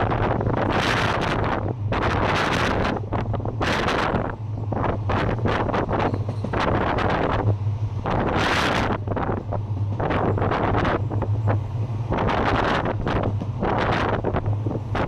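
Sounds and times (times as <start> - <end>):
train running hum: 0.0 - 15.0
wind buffeting microphone: 0.0 - 15.0.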